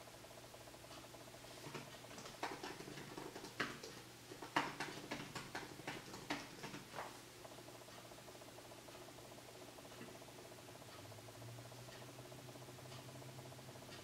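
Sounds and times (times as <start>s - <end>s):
laptop keyboard typing: 0.0s - 14.0s.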